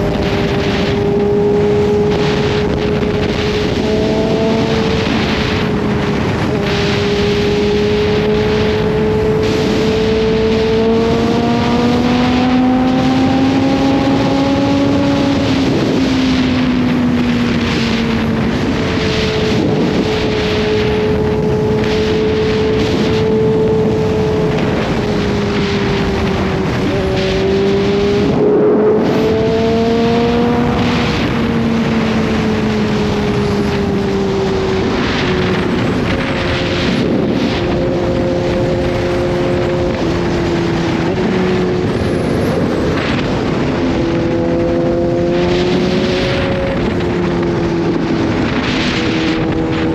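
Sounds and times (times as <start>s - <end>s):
motorcycle engine cruising: 0.0s - 49.9s
wind rushing: 0.0s - 49.9s.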